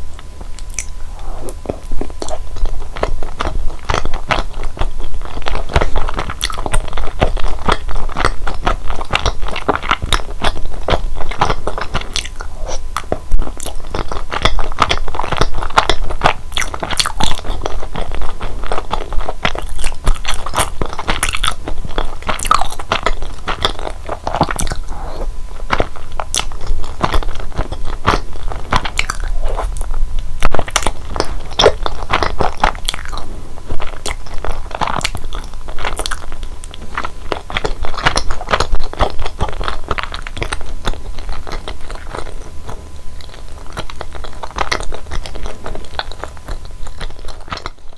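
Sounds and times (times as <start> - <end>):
chewing with mouth clicks: 0.2 - 47.9.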